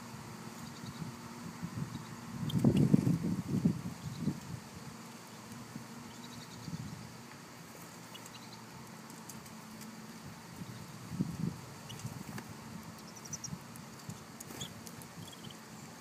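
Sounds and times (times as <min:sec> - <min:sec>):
birds pecking at seed: 0:01.8 - 0:16.0.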